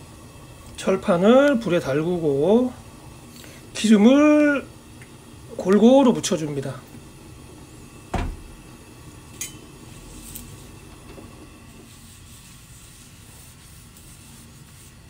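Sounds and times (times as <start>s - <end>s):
oil hissing on hot pan: 0.0s - 15.0s.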